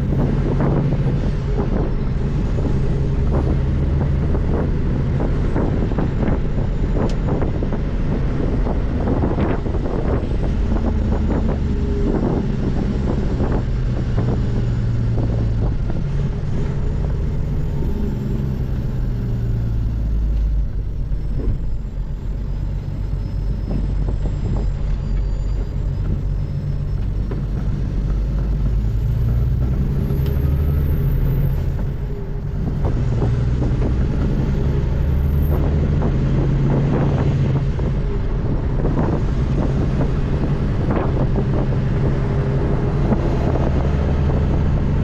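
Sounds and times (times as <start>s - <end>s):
diesel truck engine under load: 0.0s - 45.0s.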